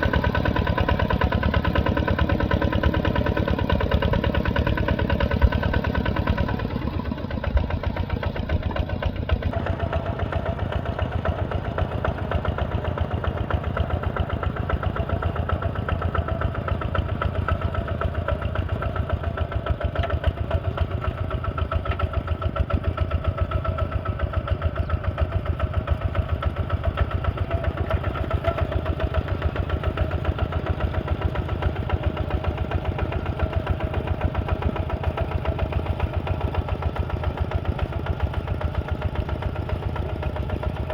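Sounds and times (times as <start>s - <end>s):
heavy equipment engine chugging: 0.0s - 40.9s.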